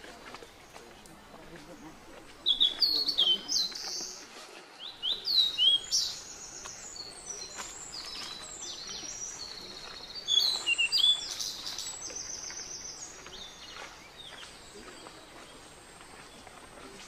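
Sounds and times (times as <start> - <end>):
birds chirping: 0.0 - 17.0
outdoor background hiss: 0.0 - 17.0.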